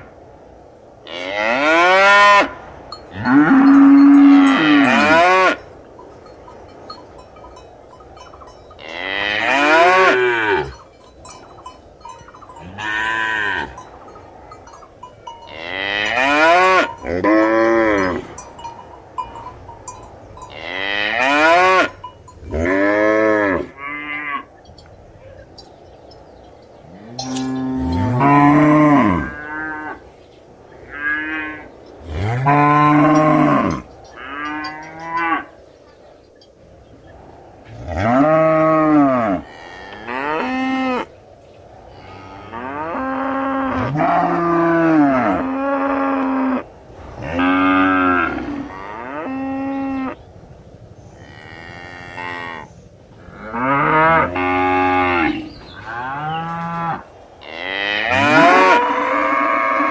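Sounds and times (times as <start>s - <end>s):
cows mooing: 1.1s - 6.2s, 8.2s - 25.7s, 26.4s - 30.1s, 30.8s - 35.6s, 37.7s - 41.1s, 41.9s - 50.2s, 51.2s - 59.9s.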